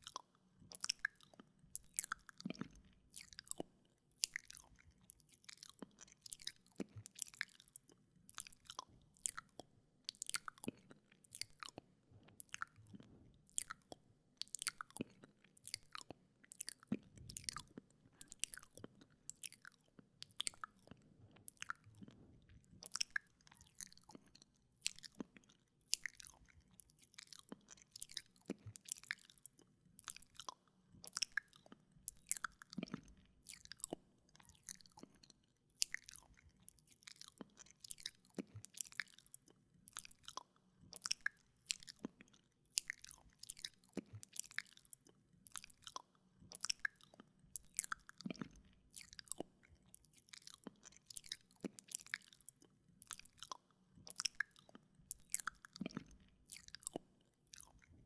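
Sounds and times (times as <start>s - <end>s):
wet mouth sounds: 10.3s - 58.0s.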